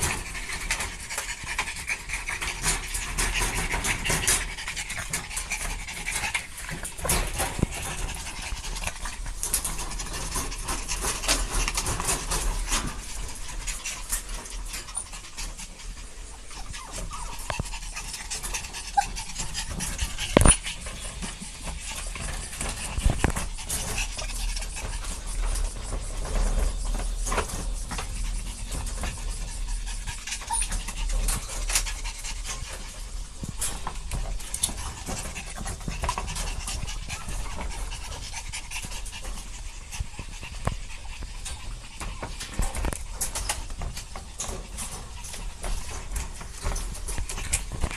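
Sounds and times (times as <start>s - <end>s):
dog panting: 0.0s - 47.9s.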